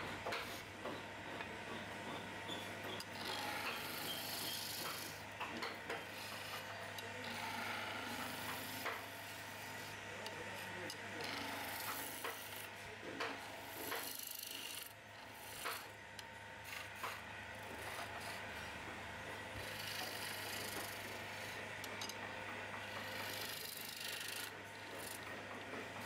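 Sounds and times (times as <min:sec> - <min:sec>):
lathe low hum: 0:00.0 - 0:26.0
chisel scraping wood on lathe: 0:00.3 - 0:00.7, 0:02.6 - 0:05.2, 0:05.8 - 0:12.8, 0:13.4 - 0:16.0, 0:16.6 - 0:22.2, 0:22.8 - 0:26.0.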